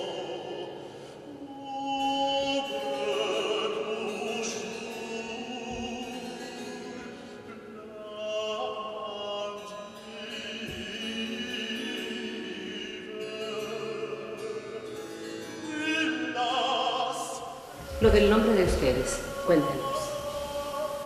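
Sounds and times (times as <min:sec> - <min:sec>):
baritone singing operatically: 0:00.0 - 0:21.0.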